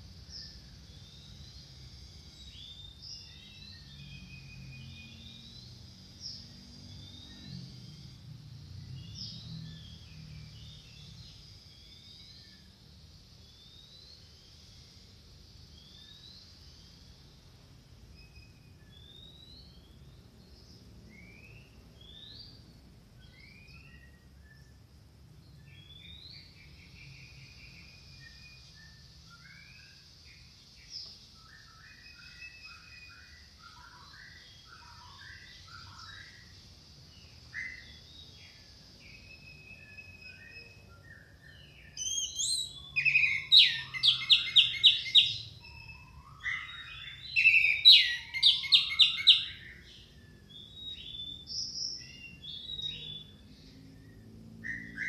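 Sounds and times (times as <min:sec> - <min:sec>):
faint steady high hiss: 0:00.0 - 0:54.7.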